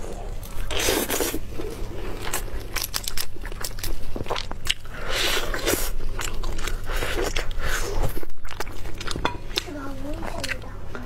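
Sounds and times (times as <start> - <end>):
chewing roast chicken: 0.0 - 11.0.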